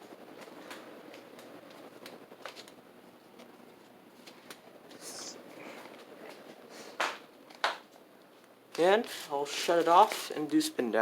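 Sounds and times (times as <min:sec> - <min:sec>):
ceiling fan running: 0:00.0 - 0:11.0.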